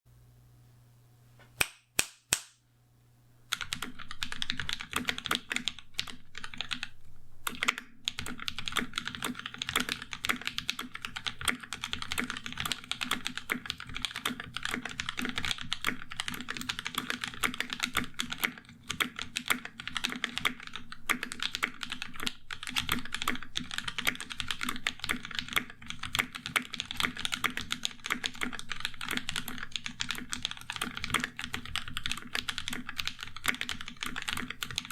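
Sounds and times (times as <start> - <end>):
mechanical keyboard typing: 3.5 - 34.9.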